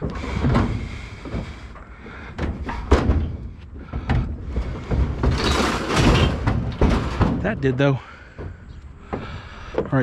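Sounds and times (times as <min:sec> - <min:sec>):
scrap metal knocks and clunks: 0:00.0 - 0:10.0.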